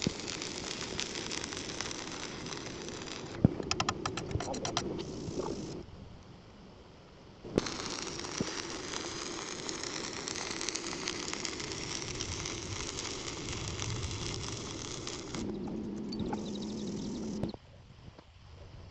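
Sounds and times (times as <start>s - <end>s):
welding arc crackle and sizzle: 0.0s - 5.8s, 7.5s - 17.6s
steady low hum: 0.0s - 17.6s.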